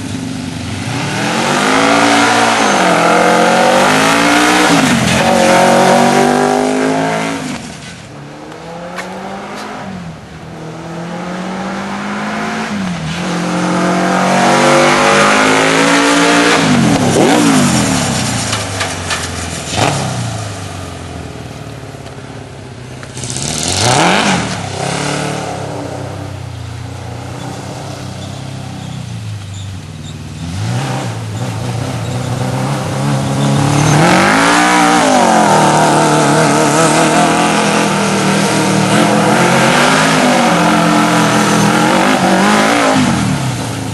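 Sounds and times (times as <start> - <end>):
motorcycle engine revving: 0.0 - 7.6, 8.4 - 21.6, 23.0 - 43.9.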